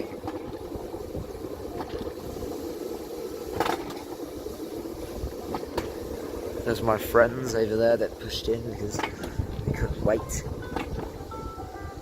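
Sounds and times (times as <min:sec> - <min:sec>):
coaster cart rolling rumble: 0:00.0 - 0:12.0.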